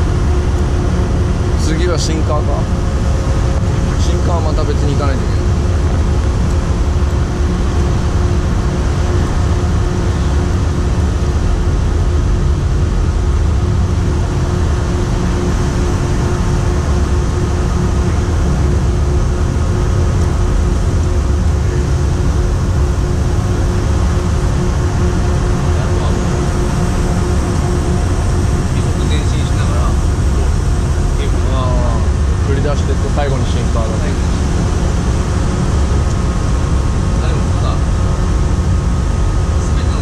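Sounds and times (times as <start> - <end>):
engine and machinery rumble: 0.0 - 40.0
faint steady hum: 0.0 - 40.0
wind: 0.0 - 40.0.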